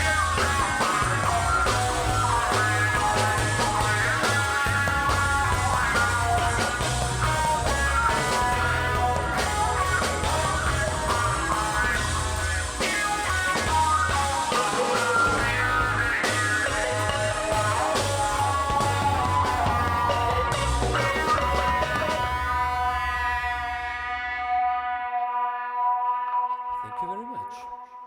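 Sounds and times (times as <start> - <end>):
steady drum beat: 0.0 - 22.9
bass line: 0.0 - 24.7
live rock-pop band playing: 0.0 - 26.5
guitar: 0.0 - 28.0.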